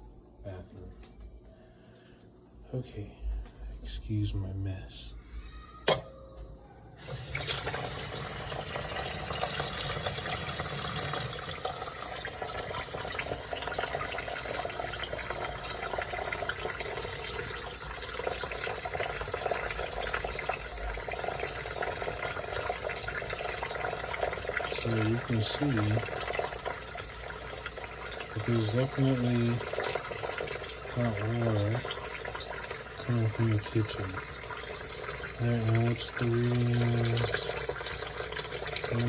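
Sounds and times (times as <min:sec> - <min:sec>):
faucet running into sink: 0:07.0 - 0:39.0.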